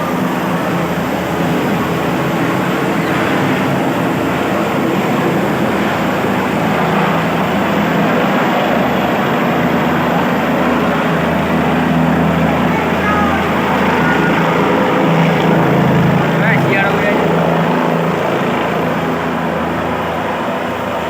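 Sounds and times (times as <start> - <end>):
helicopter engine and rotor: 0.0 - 21.0.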